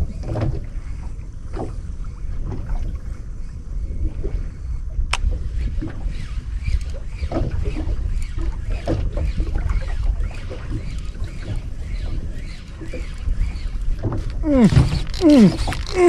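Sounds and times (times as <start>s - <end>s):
water slapping a wooden hull: 0.0s - 4.5s, 5.2s - 16.0s
low rumble of wind and sea: 0.0s - 16.0s.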